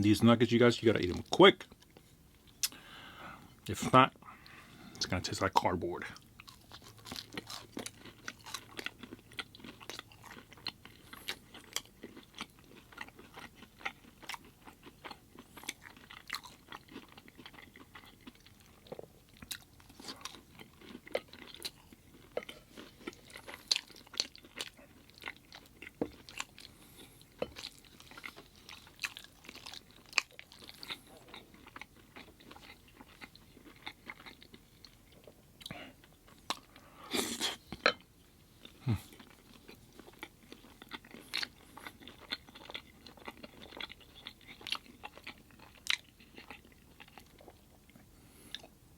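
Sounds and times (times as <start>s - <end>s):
person chewing and smacking: 1.0s - 2.8s, 6.1s - 36.8s, 38.6s - 48.8s.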